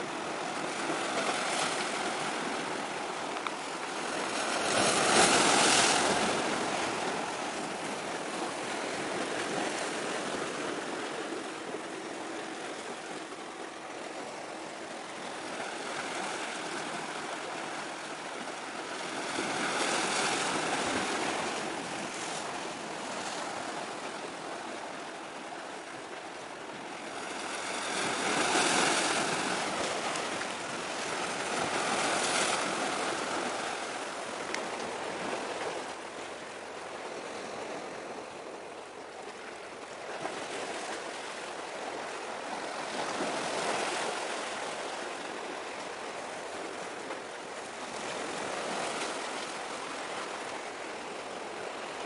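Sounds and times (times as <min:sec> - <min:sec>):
sea waves washing on shore: 0:00.0 - 0:52.0.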